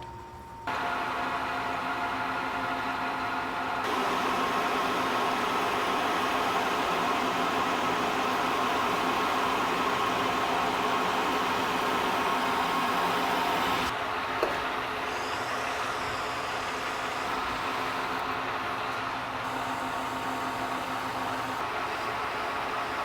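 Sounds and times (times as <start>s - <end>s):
metal lathe running: 0.7s - 23.0s.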